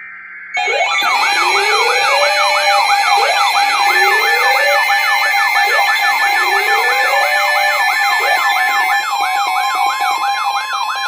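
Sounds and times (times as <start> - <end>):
quick warbling siren sweeps: 0.6 - 11.0
rising alarm wail: 0.6 - 11.0
steady alarm tones: 0.6 - 11.0.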